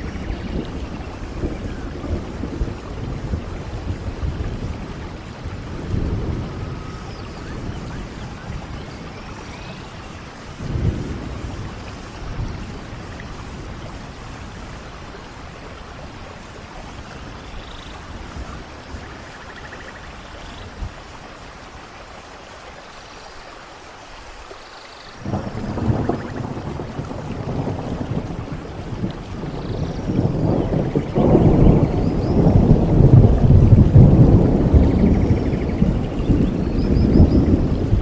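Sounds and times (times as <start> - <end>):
rolling thunder: 0.0 - 21.0, 25.2 - 38.0
steady rain: 0.0 - 38.0.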